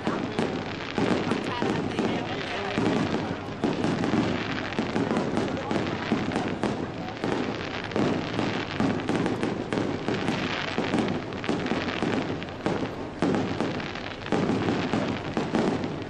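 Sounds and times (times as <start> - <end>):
fireworks bangs: 0.0 - 16.0
fireworks crackling pops: 0.0 - 16.0.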